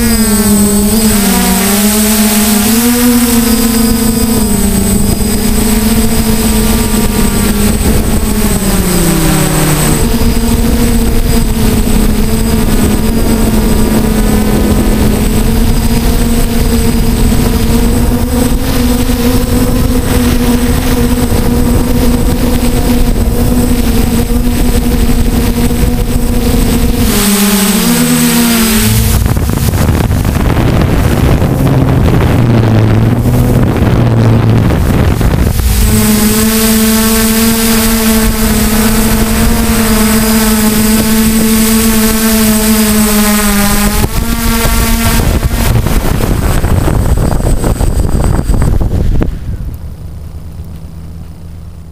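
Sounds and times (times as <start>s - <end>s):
quadcopter motors whining: 0.0s - 51.9s
wind noise: 0.0s - 51.9s.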